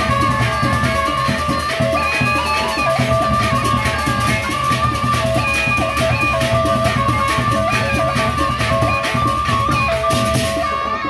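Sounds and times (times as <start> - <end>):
barrel drums and gongs: 0.0 - 11.0.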